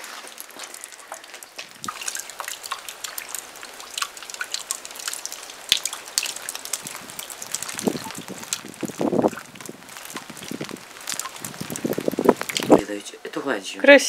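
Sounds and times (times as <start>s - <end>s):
water dripping: 0.0s - 13.4s.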